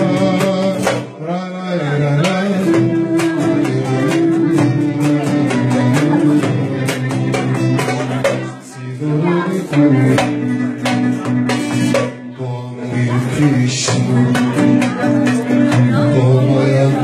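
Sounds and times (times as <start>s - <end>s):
percussion beat: 0.0s - 1.3s, 2.1s - 12.4s, 13.1s - 17.0s
folk-style melody: 0.0s - 17.0s.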